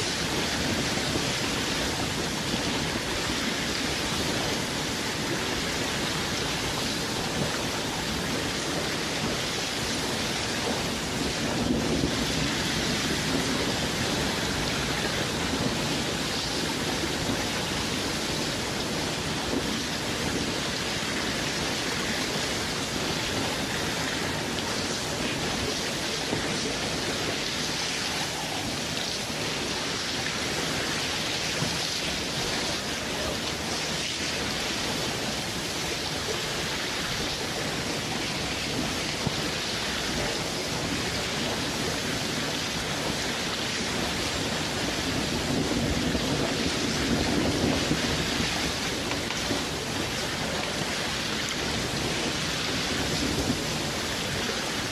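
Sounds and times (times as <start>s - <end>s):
water noise: 0.0s - 54.9s.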